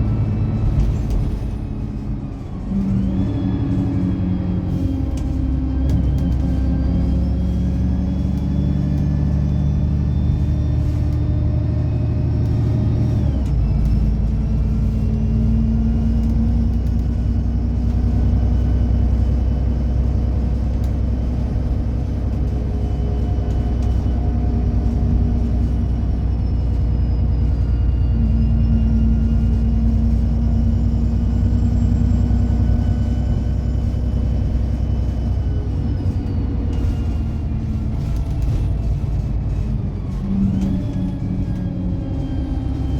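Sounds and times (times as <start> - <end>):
bus engine rumble: 0.0 - 42.9.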